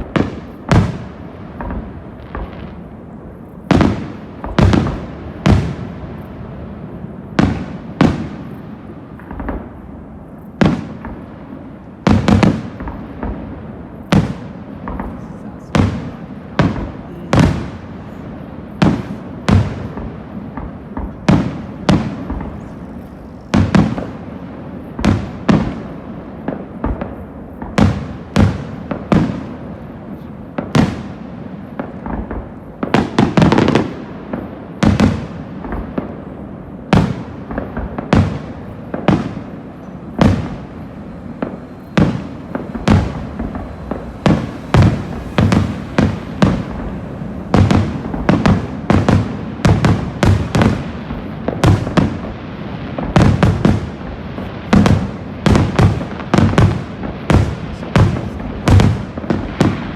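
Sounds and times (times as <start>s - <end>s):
firework shells bursting: 0.0s - 59.9s.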